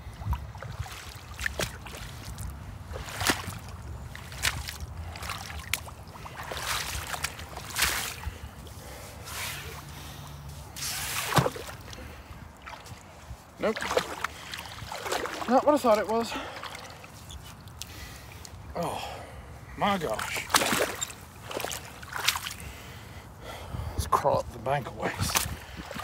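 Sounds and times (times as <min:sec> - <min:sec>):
boots splashing through water: 0:00.0 - 0:18.6, 0:20.0 - 0:22.7, 0:25.0 - 0:26.0.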